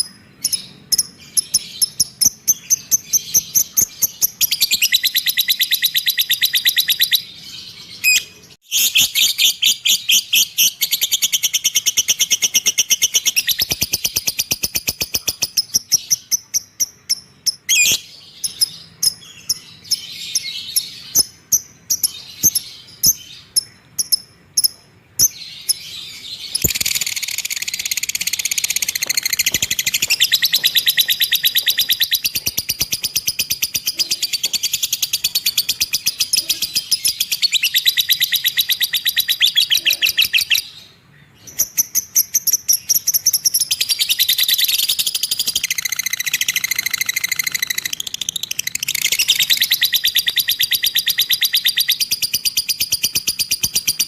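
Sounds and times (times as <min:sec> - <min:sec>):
lovebird chattering trill: 0:00.0 - 0:07.3, 0:08.0 - 0:40.8, 0:41.5 - 0:54.0
bird chirps: 0:00.0 - 0:54.0.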